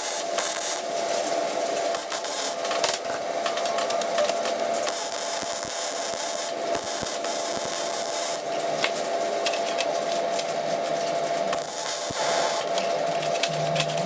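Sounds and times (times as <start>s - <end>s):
welding arc crackling and sizzling: 0.0s - 14.0s.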